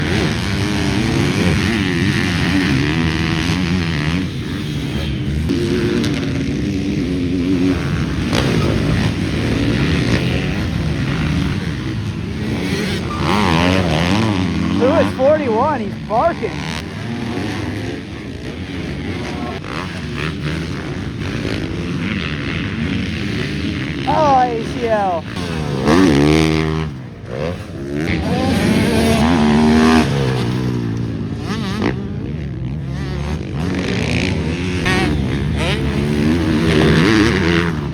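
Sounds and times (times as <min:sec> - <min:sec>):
dirt bike engines revving: 0:00.0 - 0:37.9.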